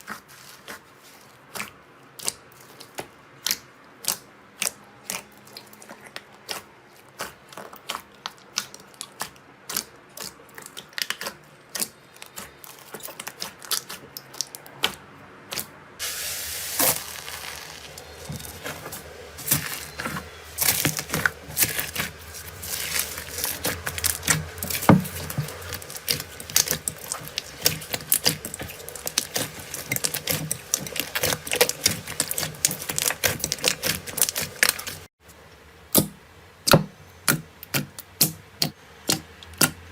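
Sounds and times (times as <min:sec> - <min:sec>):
crunchy slime crackling: 0:00.0 - 0:35.2.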